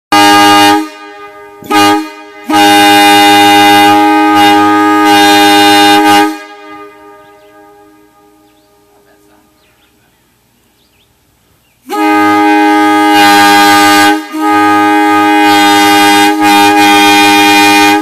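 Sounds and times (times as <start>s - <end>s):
loud air horn blasts: 0.1s - 9.3s, 11.8s - 18.0s.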